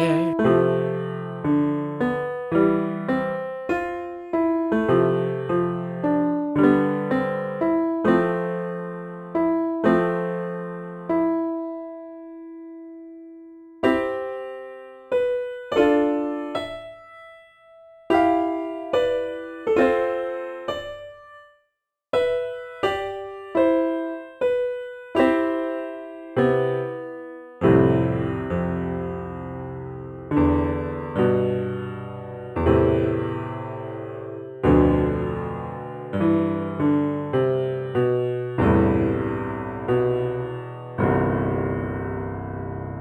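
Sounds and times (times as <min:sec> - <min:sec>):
piano notes and chords: 0:00.0 - 0:21.6, 0:22.2 - 0:43.0.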